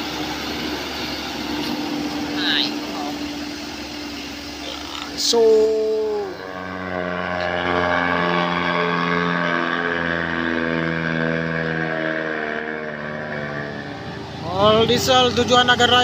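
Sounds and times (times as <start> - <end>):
truck diesel engine labouring: 0.0 - 16.0.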